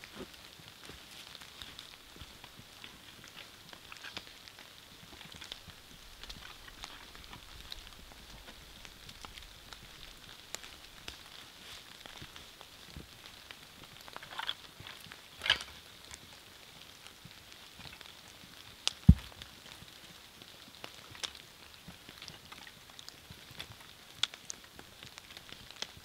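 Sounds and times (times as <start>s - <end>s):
raindrops ticking: 0.0s - 26.0s
steady rain: 0.0s - 26.0s.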